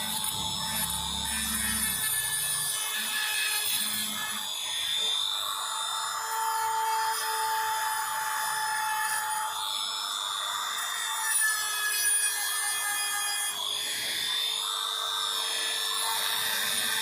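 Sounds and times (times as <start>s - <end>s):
power tool whining and grinding: 0.0s - 17.0s.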